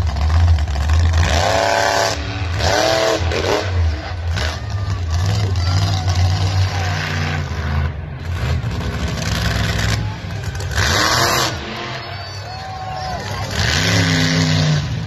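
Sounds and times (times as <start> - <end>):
monster truck engine rumbling: 0.0 - 15.0.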